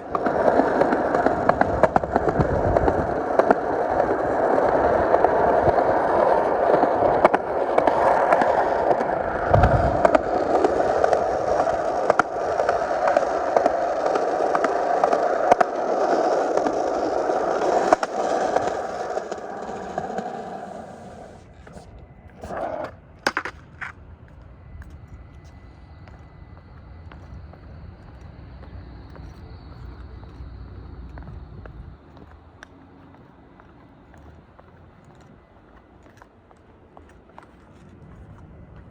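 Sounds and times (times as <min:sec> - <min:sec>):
skateboard wheels rolling on pavement: 0:00.0 - 0:38.9.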